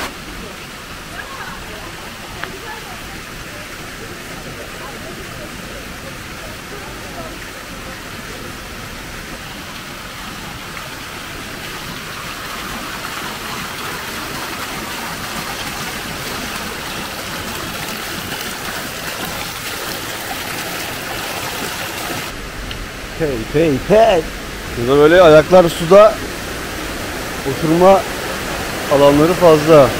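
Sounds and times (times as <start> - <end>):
water rushing over cascades: 0.0 - 29.9.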